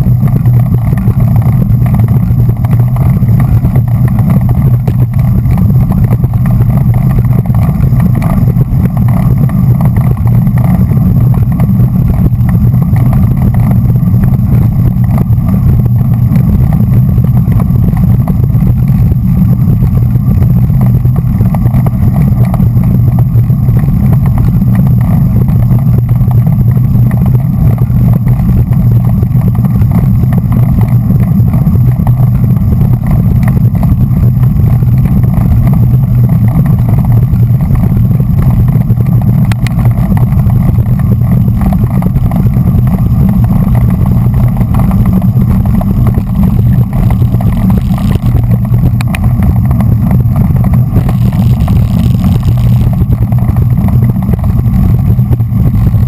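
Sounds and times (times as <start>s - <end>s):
road and tyre noise: 0.0s - 56.0s
wind rumble on microphone: 0.0s - 56.0s.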